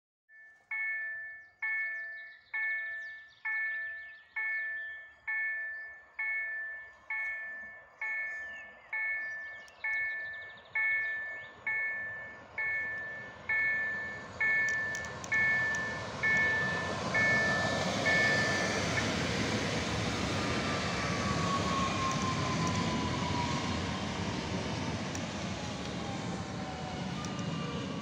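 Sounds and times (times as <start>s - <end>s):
level crossing warning bell: 0.3s - 28.0s
electric train rumbling on rails: 0.5s - 28.0s.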